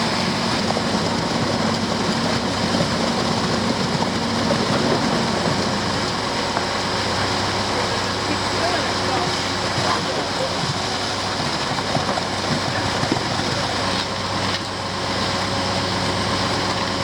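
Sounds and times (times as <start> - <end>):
concrete pump truck droning: 0.0 - 17.0.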